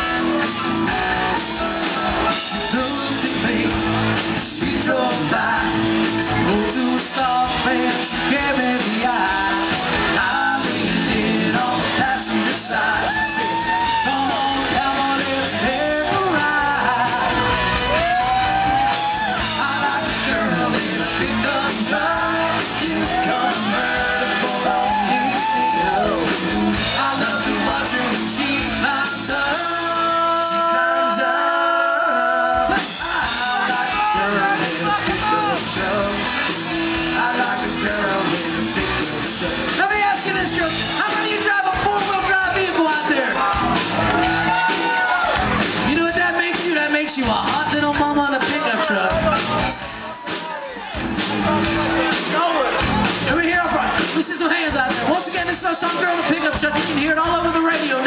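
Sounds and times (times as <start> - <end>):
person singing: 0.0 - 45.1, 45.8 - 52.3
bass: 0.0 - 58.0
drums: 0.0 - 58.0
electric guitars: 0.0 - 58.0.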